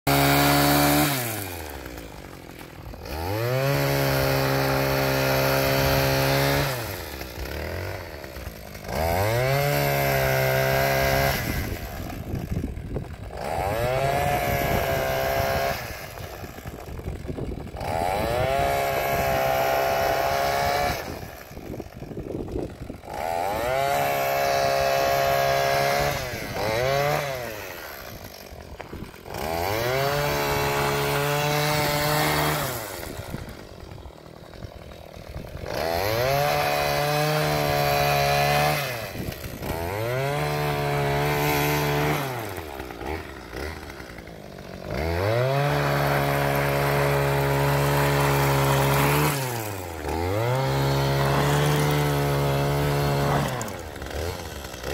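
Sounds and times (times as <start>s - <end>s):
two-stroke engine revving: 0.1s - 54.9s.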